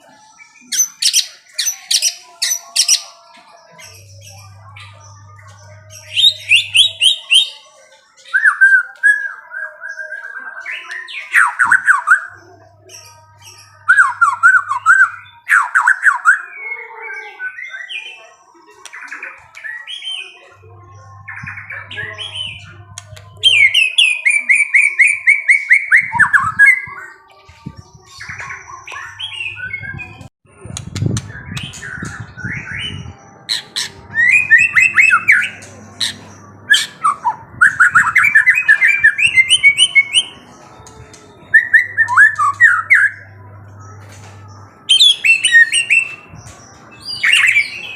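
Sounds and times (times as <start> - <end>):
songbird chirping and trilling: 0.0 - 47.9.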